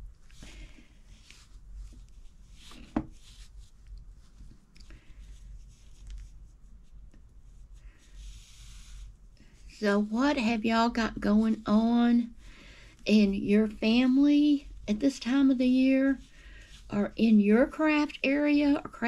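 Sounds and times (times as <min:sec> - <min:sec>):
hands and yarn rustling: 0:00.0 - 0:19.0.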